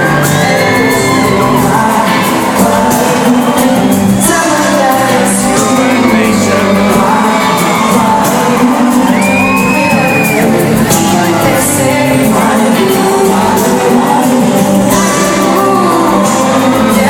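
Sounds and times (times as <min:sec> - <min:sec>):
band playing pop music: 0:00.0 - 0:17.0
crowd whooping and shouting: 0:00.0 - 0:17.0
man singing: 0:00.0 - 0:17.0.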